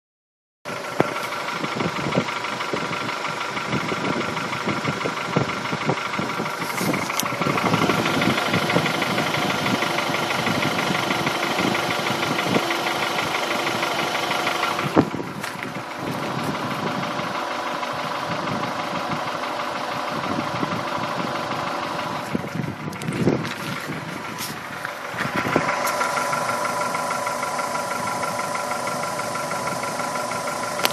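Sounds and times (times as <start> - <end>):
engine knocking clatter: 0.7 - 30.9.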